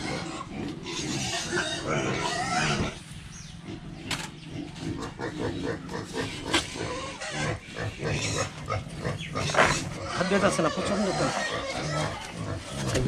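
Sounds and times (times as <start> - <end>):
pigs grunting: 0.0 - 13.0
pigs squealing: 0.0 - 13.0.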